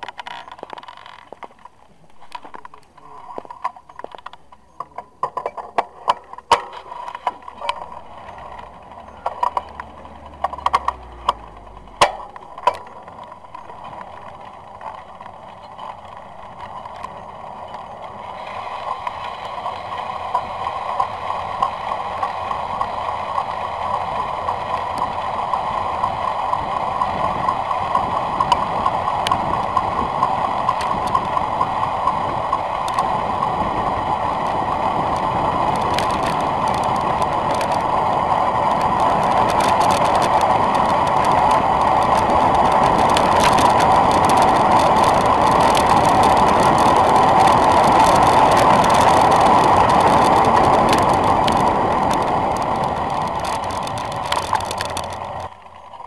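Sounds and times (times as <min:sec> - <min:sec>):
sharp bike clicks: 0:00.0 - 0:56.0
wind and tyres rolling: 0:00.0 - 0:56.0.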